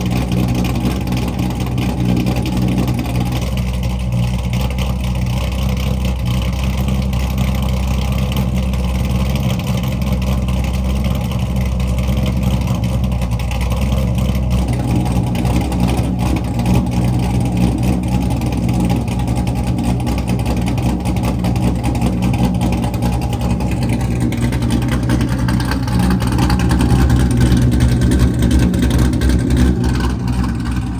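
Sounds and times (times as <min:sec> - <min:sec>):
loud car engine running: 0:00.0 - 0:30.9.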